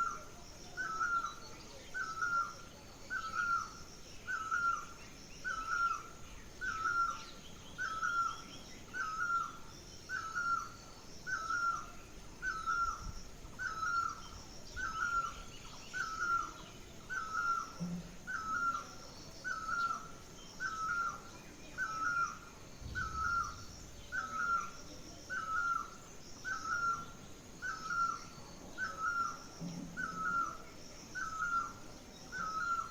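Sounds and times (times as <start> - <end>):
faint bird chirps: 0.0 - 32.9.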